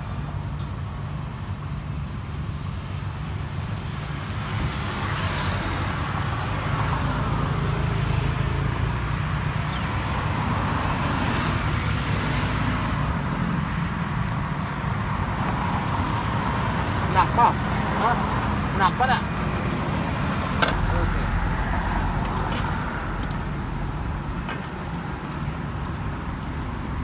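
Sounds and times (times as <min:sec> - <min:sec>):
passing cars: 0:02.6 - 0:27.0.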